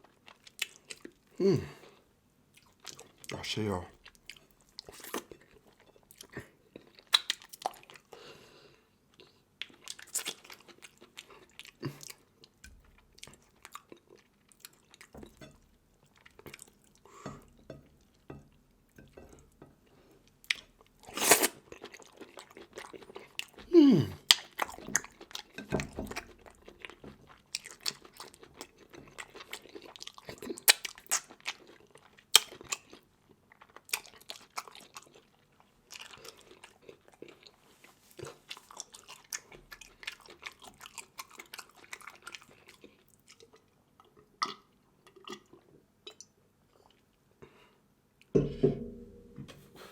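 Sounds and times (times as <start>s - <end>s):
person chewing and crunching: 0.0s - 1.9s, 2.6s - 8.2s, 9.1s - 47.1s.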